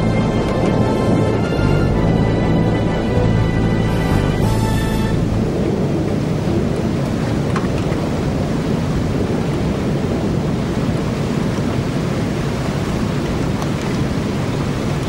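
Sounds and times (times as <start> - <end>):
rain and wind rushing: 0.0 - 15.0.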